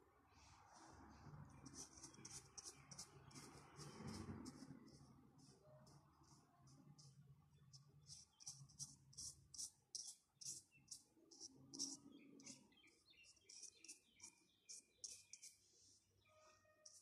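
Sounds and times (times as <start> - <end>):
faint bird chirping: 1.5 - 17.0.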